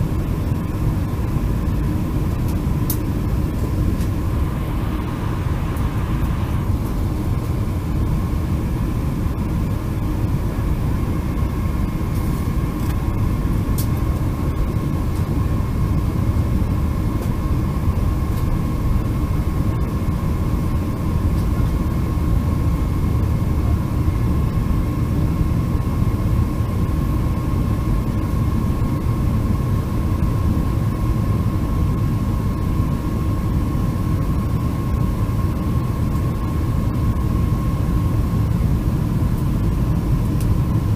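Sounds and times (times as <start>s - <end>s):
jet engines rumbling: 0.0s - 40.9s
steady engine whine: 0.0s - 40.9s.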